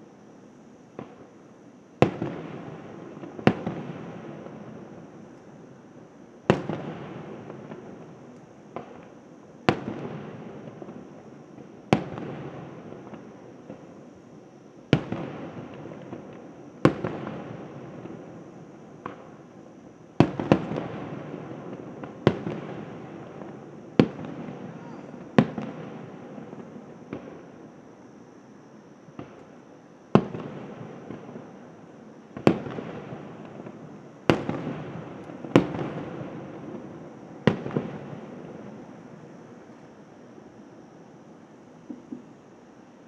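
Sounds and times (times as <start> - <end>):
fireworks bursting: 2.0 - 5.7, 6.4 - 14.0, 14.9 - 27.8, 29.1 - 40.0.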